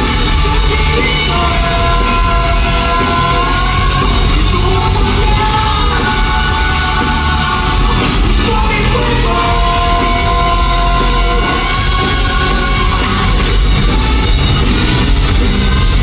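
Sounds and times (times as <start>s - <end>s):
live rock band over loudspeakers: 0.0s - 16.0s.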